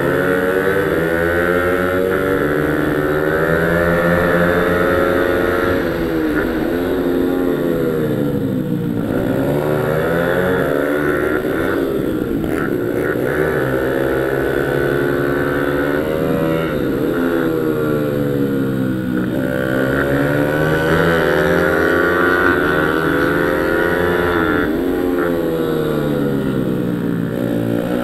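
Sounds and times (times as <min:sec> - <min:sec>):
pit bike engine revving: 0:00.0 - 0:28.0.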